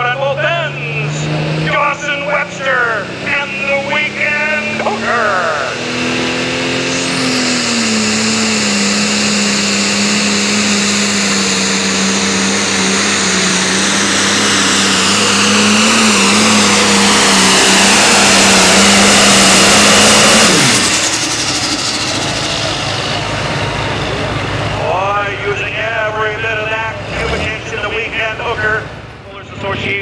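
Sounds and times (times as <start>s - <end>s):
diesel tractor engine at full throttle: 0.0s - 30.0s
high turbo whine: 0.0s - 30.0s.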